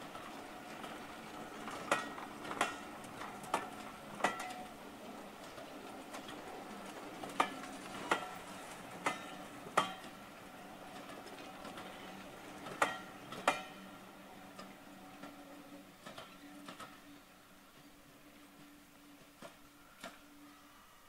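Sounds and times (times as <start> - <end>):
train wheels clicking over rail joints: 0.0 - 20.3
faint train rumble: 0.0 - 21.0.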